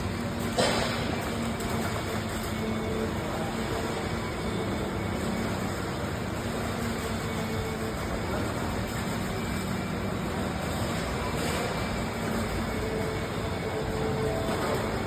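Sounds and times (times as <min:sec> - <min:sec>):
heavy diesel engines running: 0:00.0 - 0:15.0.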